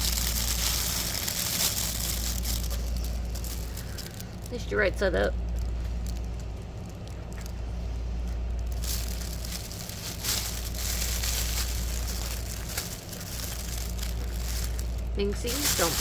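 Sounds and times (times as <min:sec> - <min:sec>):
fabric tunnel rustling and crinkling: 0:00.0 - 0:16.0.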